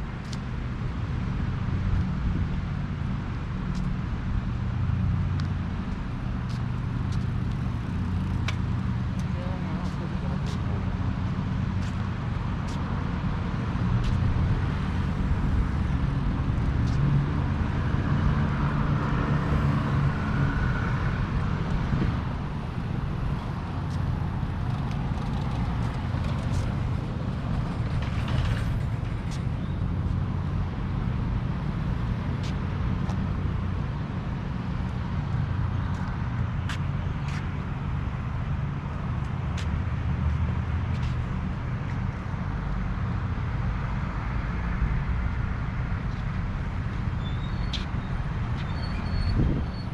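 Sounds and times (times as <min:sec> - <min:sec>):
city road traffic rumble: 0:00.0 - 0:49.9.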